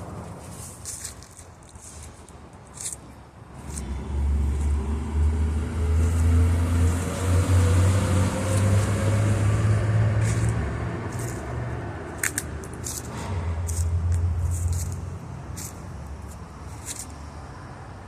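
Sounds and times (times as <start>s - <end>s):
road noise: 0.0s - 18.0s
vehicle engine rumble: 0.0s - 18.0s.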